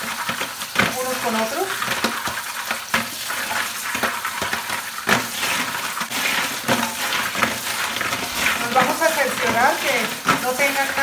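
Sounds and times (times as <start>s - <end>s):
tap water splashing into sink: 0.0s - 11.0s.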